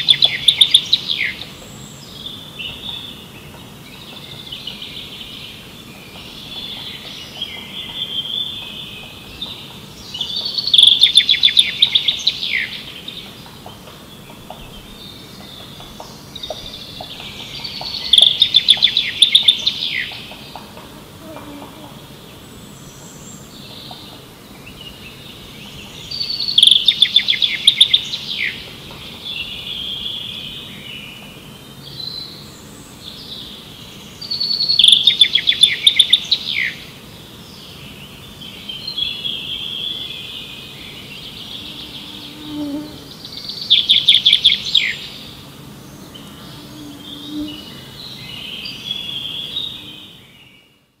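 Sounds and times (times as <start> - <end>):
soft bird chirps: 0.0 - 20.8, 22.3 - 32.5, 33.1 - 36.8, 37.6 - 45.4
songbird rapid trill: 0.0 - 50.9.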